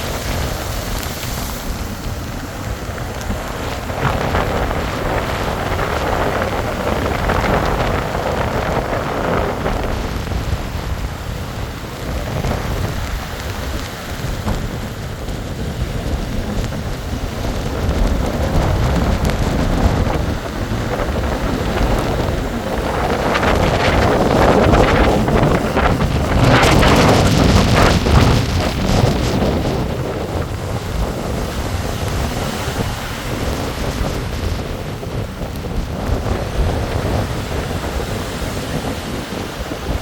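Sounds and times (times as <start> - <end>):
storm wind blowing: 0.0 - 40.0
wind buffeting microphone: 0.0 - 40.0.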